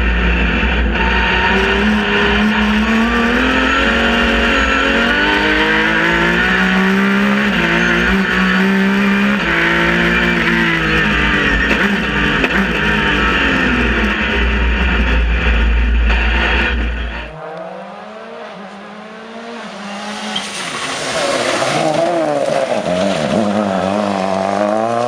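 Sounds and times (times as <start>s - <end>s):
car engine revving through gears: 0.0s - 25.0s
rally car engine at full throttle: 0.0s - 25.0s.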